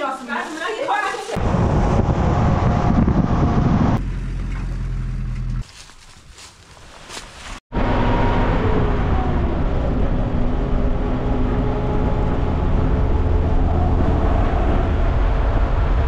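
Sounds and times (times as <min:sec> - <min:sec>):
car engine and road rumble: 0:01.4 - 0:16.0.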